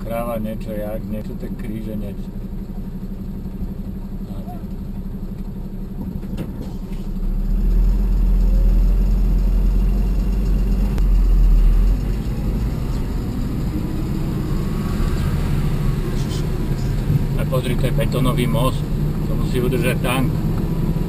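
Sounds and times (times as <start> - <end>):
car engine and tyre noise: 0.0 - 21.0
heavy low rumble: 0.0 - 21.0.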